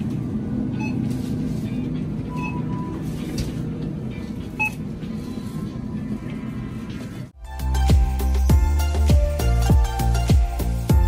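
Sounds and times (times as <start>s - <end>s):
music playing: 1.7s - 11.0s.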